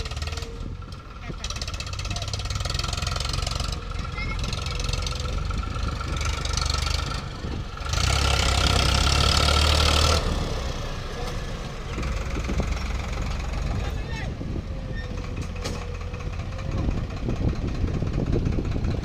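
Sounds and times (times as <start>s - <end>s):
heavy diesel engine revving: 0.0s - 19.0s.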